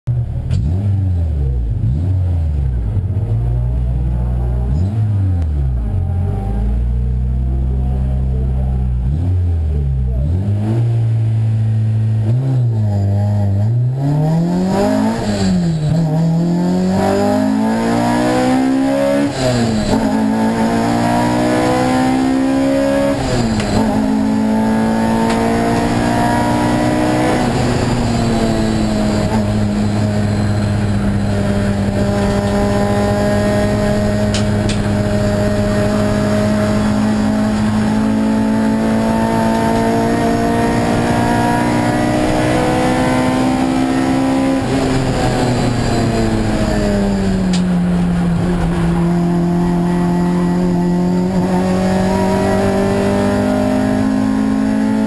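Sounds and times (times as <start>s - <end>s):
car engine revving hard: 0.4s - 55.0s.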